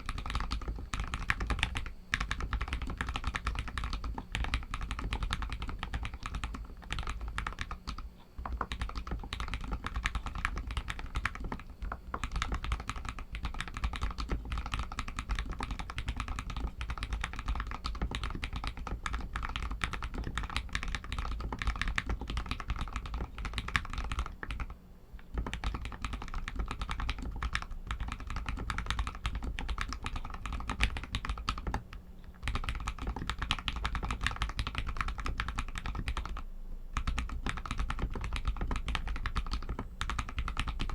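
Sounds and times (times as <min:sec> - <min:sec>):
fast typing on mechanical keyboard: 0:00.0 - 0:36.4, 0:37.0 - 0:40.9.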